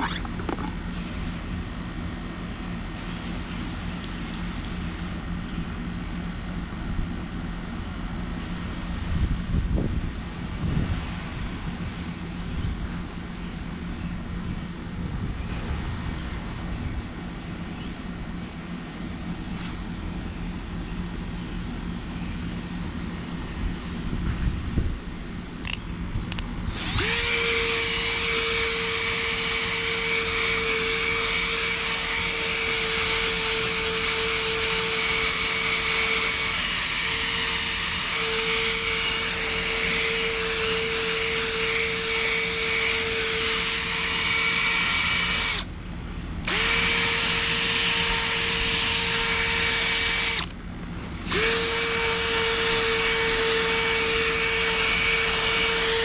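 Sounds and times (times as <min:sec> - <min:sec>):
small high-speed motor whining: 0:00.0 - 0:07.5, 0:08.2 - 0:56.0.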